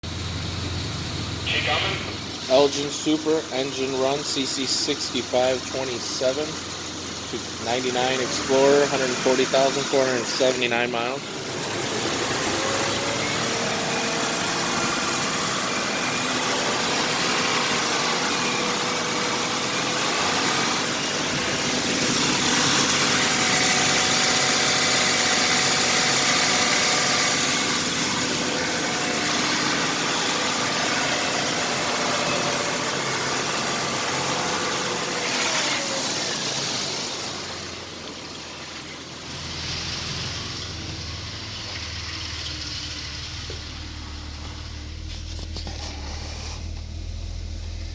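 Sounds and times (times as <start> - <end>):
car engine idling with faint whine: 0.0 - 47.9.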